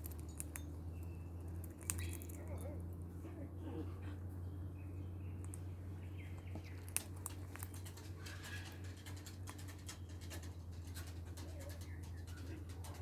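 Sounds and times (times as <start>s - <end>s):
beak clicking and scratching: 0.0s - 3.1s, 5.3s - 13.0s
steady low hum: 0.0s - 13.0s.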